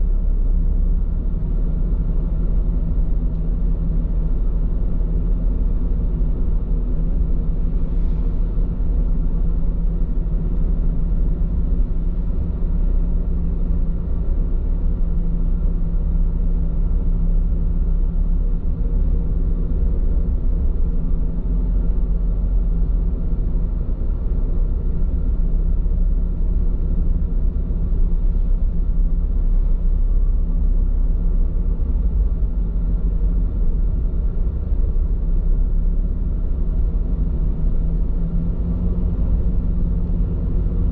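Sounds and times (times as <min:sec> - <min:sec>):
road rumble and tyre noise in car: 0:00.0 - 0:40.9.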